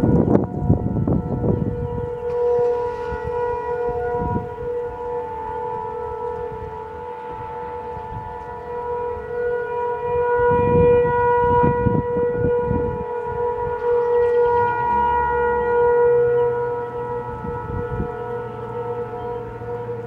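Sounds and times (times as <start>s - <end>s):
siren steady tone: 0.0s - 20.0s.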